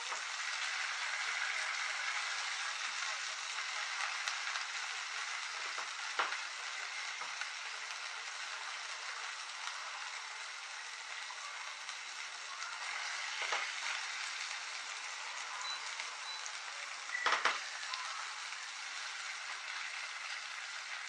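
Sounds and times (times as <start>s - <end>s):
fish sizzling in a frying pan: 0.0s - 21.0s.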